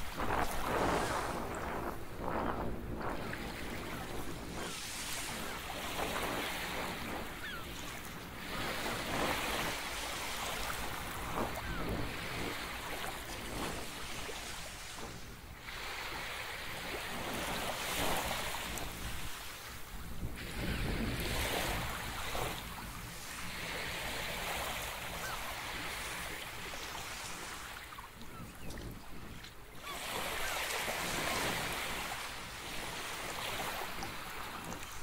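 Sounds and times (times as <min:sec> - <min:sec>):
wind: 0:00.0 - 0:35.0.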